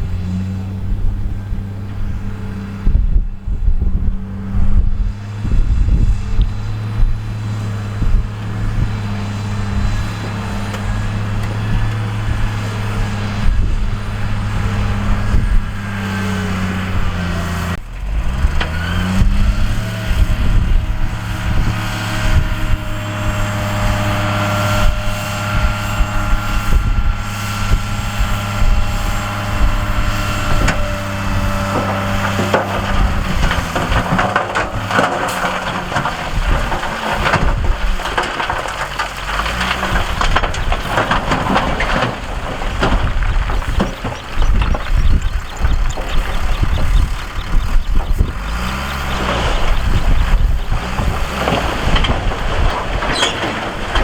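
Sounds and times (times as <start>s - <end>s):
heavy diesel engine revving: 0.0s - 54.0s
rock and gravel clattering: 0.0s - 54.0s.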